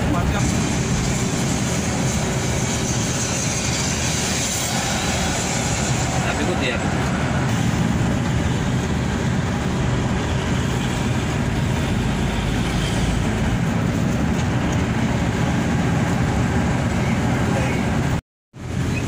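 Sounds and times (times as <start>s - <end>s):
coach engine drone: 0.0s - 18.8s
road noise: 0.0s - 19.0s.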